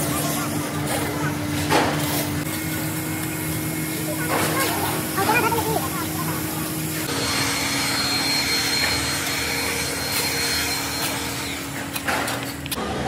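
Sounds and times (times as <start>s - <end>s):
workshop machine motor hum: 0.0s - 13.0s.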